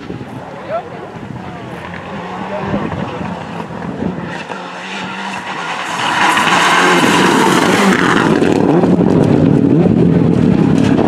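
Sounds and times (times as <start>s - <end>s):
rally car engine passing by: 0.4s - 11.0s.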